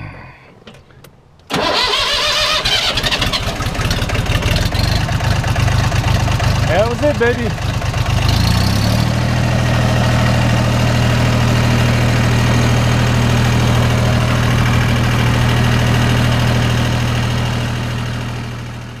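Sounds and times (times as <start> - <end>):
tractor diesel engine idling: 1.5 - 19.0.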